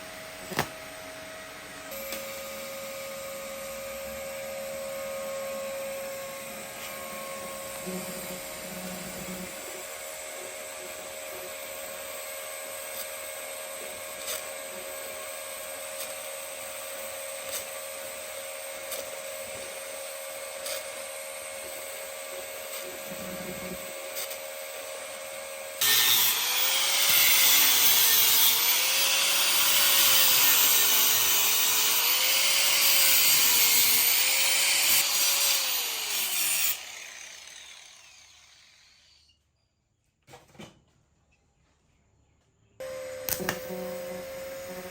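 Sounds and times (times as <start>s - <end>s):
welding arc humming: 1.9s - 39.0s, 42.8s - 44.9s
angle grinder grinding metal: 1.9s - 39.4s.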